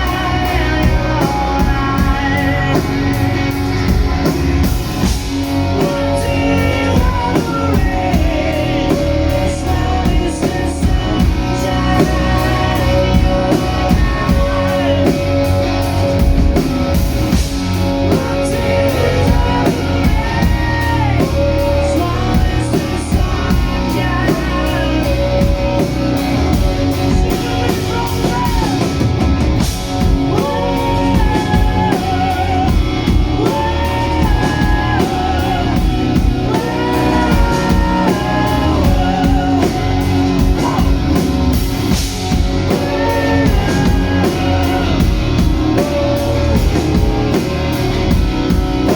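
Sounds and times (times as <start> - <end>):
drum kit cymbal beat: 0.0 - 48.9
electric guitars: 0.0 - 48.9
lead melody line: 0.0 - 48.9.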